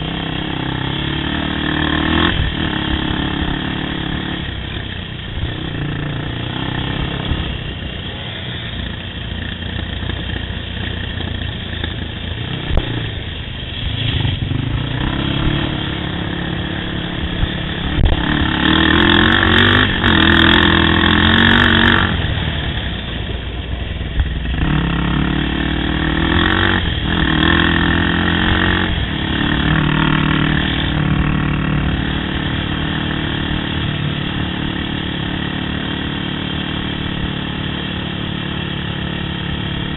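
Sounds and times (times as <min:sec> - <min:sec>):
quad engine revving: 0:00.0 - 0:23.5, 0:24.1 - 0:39.9.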